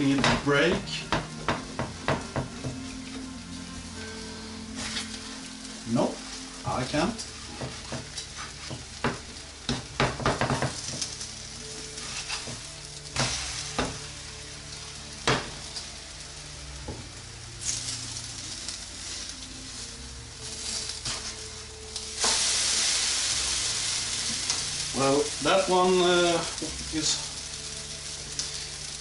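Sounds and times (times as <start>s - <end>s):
pancakes sizzling in frying pans: 0.0s - 29.0s.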